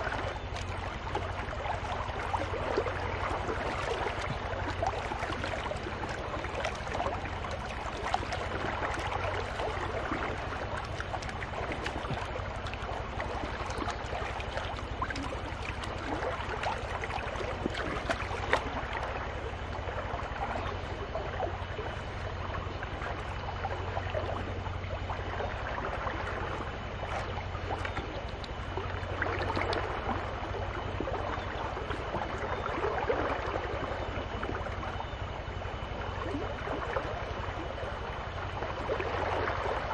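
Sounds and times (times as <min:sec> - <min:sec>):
water sloshing in a pan: 0:00.0 - 0:37.1.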